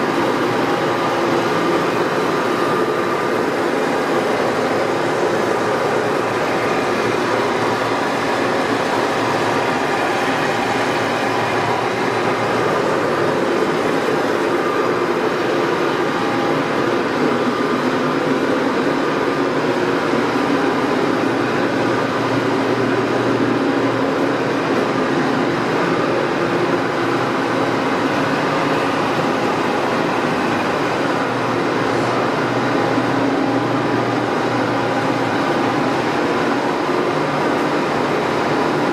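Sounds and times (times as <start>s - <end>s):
lathe machine hum: 0.0s - 38.9s.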